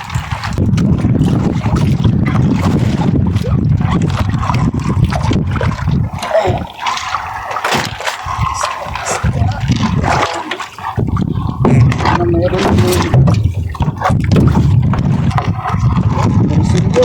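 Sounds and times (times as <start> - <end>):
water splashing and sloshing: 0.0 - 17.0
close rough rumbling: 0.2 - 17.0.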